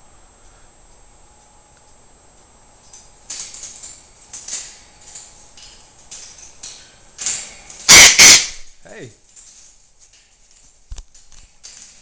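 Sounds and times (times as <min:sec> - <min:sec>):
parrots scuffling: 0:02.3 - 0:12.0.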